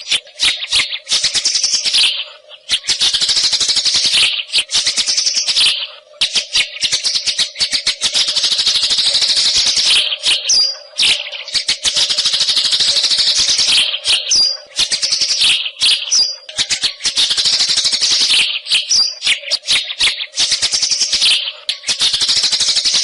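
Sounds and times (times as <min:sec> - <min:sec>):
bird singing chattering rattle: 0:00.0 - 0:23.0
clear bird whistle: 0:00.0 - 0:23.0.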